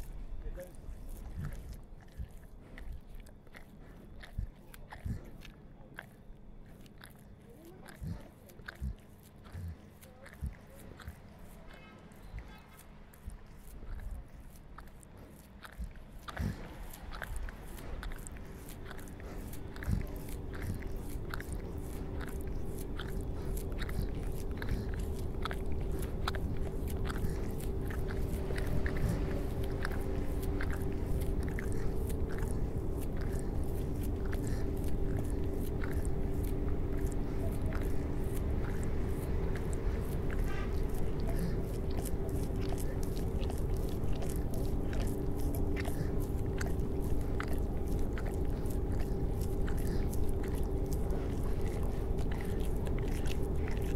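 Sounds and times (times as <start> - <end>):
dog gnawing paw: 0.0 - 53.9
steady low hum: 0.0 - 53.9.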